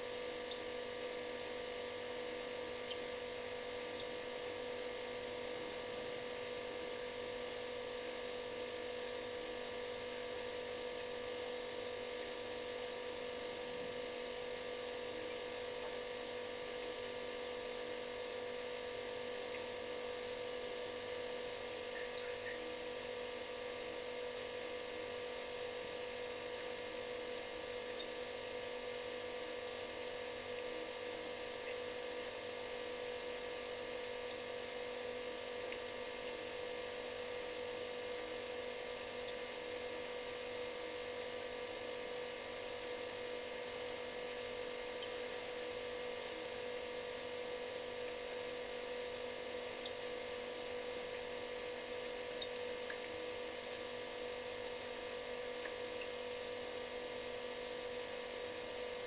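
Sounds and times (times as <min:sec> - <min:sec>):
refrigerator humming: 0:00.0 - 0:59.0.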